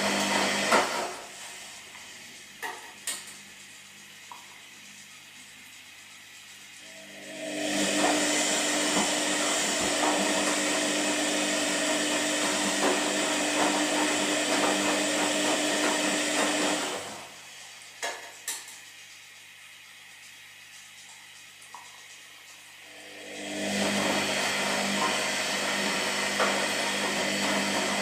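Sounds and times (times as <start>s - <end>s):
appliance motor humming and rattling: 0.0s - 28.0s.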